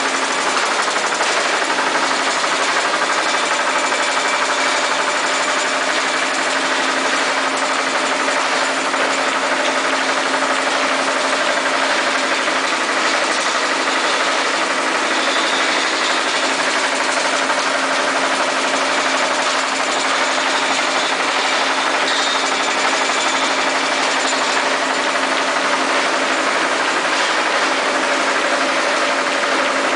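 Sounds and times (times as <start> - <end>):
constant machine hum: 0.0 - 29.9
conveyor belt and rollers turning: 0.0 - 29.9.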